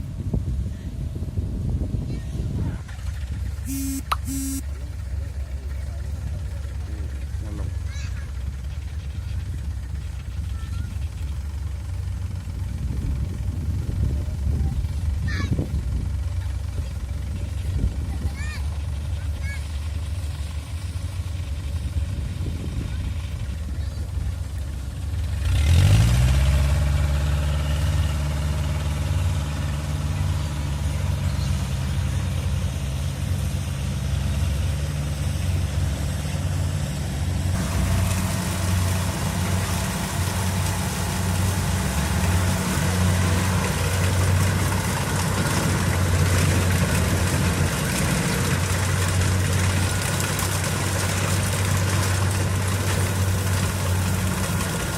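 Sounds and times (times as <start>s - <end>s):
combine harvester diesel engine: 0.0s - 54.9s.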